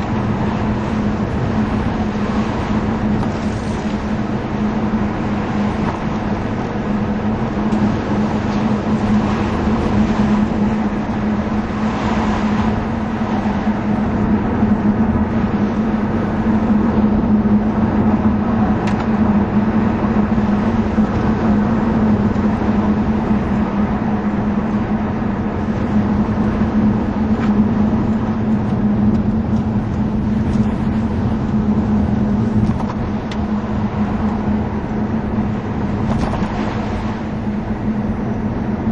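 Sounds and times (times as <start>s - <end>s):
car engine running: 0.0s - 38.9s
tyre and road noise: 0.0s - 38.9s.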